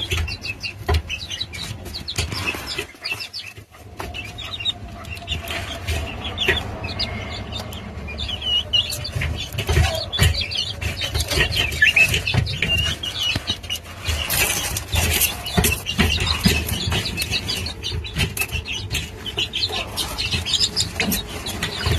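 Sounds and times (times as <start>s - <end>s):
chickens clucking and chirping: 0.0s - 21.9s
knocks and rustling: 0.0s - 21.9s.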